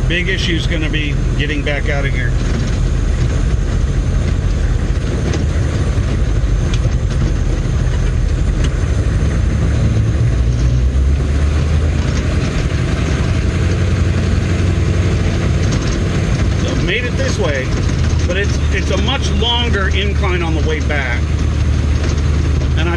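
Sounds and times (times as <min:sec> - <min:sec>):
diesel engine drone: 0:00.0 - 0:22.9.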